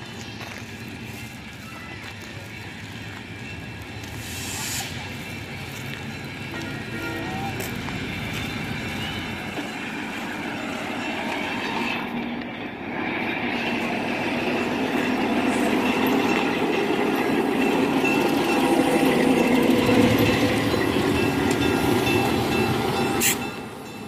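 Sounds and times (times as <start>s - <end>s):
diesel locomotive engine running: 0.0s - 24.0s
steel wheels clicking over rails: 0.0s - 24.0s.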